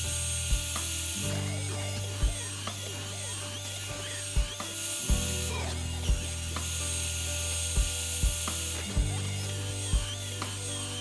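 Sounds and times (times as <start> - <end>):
router machine hum: 0.0 - 11.0.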